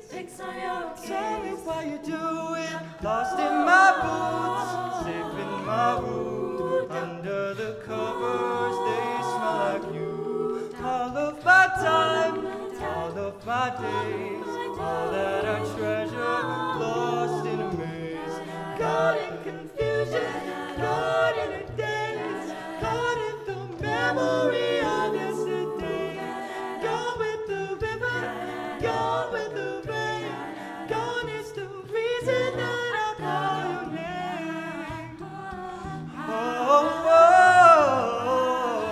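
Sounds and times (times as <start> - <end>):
a cappella group singing: 0.0 - 38.9.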